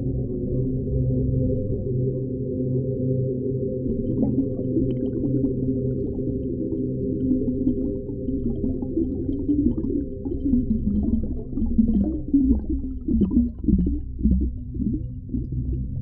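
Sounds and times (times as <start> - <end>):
low wavering sounds: 0.0 - 16.0
underwater rumble with gurgling: 0.0 - 16.0.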